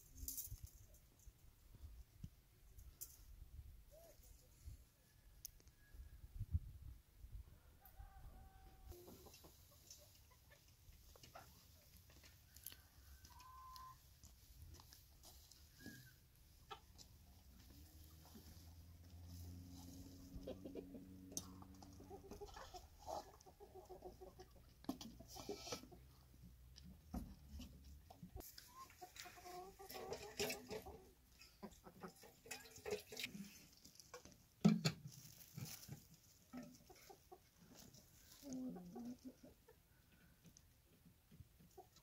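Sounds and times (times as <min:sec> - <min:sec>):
chickens clucking: 0:07.9 - 0:42.0.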